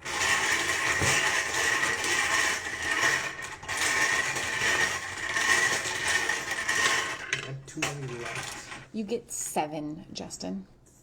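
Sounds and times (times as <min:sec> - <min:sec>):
small machine whining and rattling: 0:00.0 - 0:08.9.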